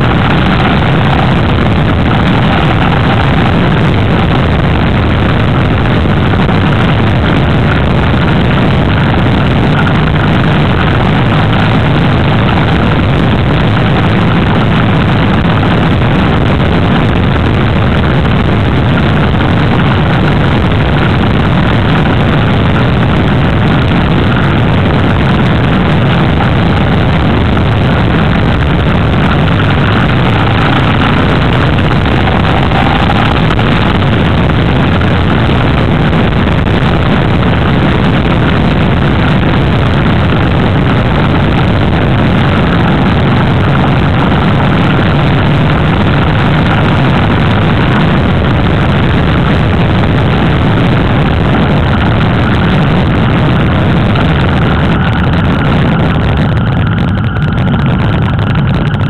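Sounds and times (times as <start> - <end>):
motorcycle engine: 0.0 - 59.0
wind noise: 0.0 - 59.0.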